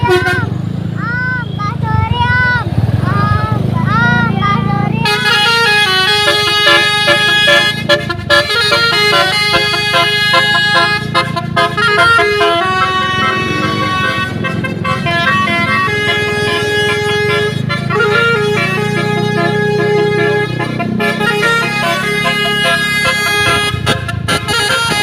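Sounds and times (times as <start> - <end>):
musical air horn tune: 0.0 - 0.5, 5.0 - 25.0.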